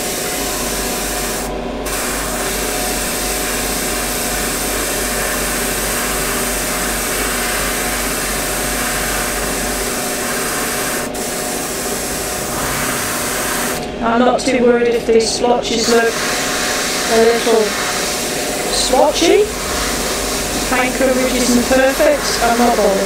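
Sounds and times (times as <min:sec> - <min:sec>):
airbrush air hiss: 0:00.0 - 0:13.9, 0:15.8 - 0:23.0
steady hum: 0:00.0 - 0:23.0.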